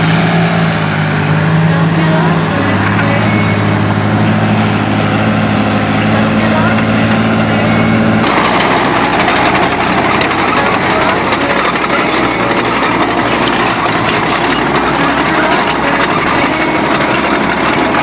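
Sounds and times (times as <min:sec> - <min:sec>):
diesel tractor engine: 0:00.0 - 0:18.0.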